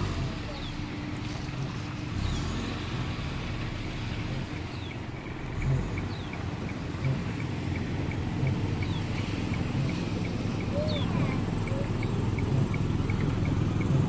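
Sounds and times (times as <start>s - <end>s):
faint even ticking: 0.0s - 14.0s.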